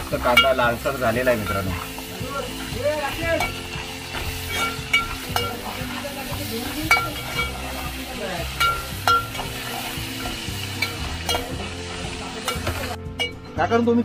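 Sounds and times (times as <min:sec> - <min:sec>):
onions sizzling in oil: 0:00.0 - 0:13.4
metal spatula scraping: 0:00.2 - 0:13.0.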